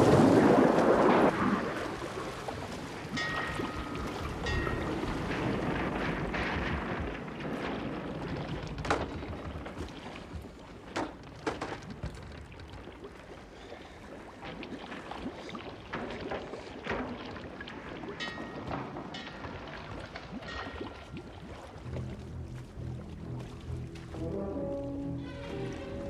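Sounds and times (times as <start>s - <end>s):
water sloshing around boat: 0.0s - 26.0s.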